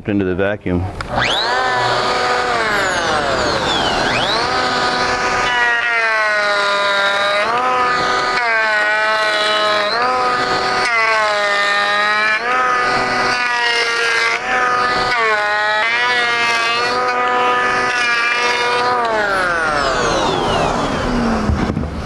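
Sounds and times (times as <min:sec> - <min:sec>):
electric hand planer whining: 0:01.0 - 0:22.0.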